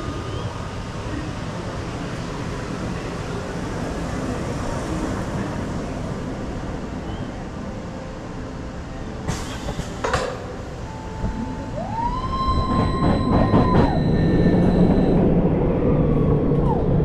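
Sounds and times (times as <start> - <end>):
roller coaster train rumbling: 0.0 - 17.0.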